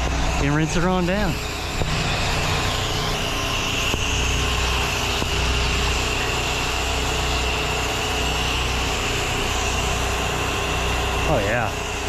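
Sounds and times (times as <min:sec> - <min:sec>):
pressure washer engine hum: 0:00.0 - 0:12.0
water spraying: 0:00.0 - 0:12.0.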